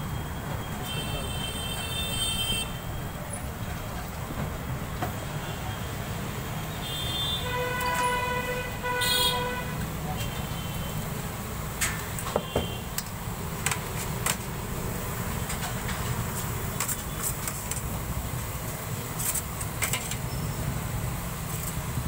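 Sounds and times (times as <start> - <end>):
low rumble of street traffic: 0.0 - 22.0.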